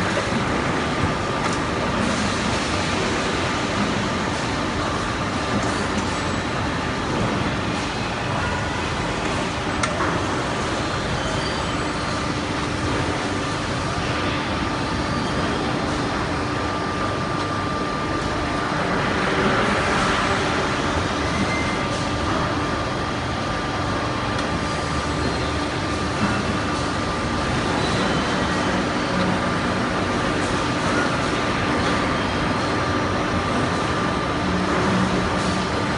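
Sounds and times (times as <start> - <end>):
conveyor machinery rumble and hiss: 0.0 - 35.9.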